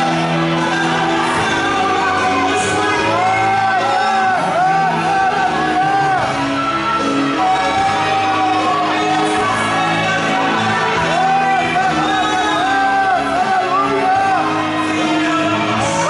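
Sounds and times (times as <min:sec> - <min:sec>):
live gospel band playing: 0:00.0 - 0:16.0
voices singing and shouting: 0:00.0 - 0:16.0.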